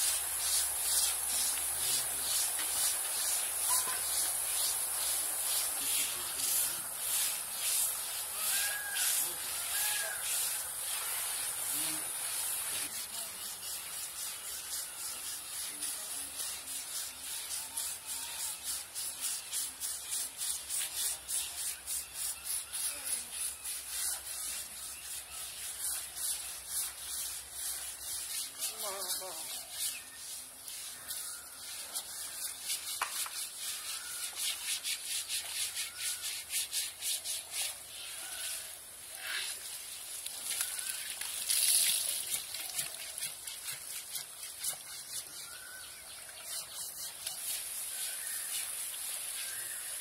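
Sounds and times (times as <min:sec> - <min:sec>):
scrubbing wet hide: 0:00.0 - 0:50.0.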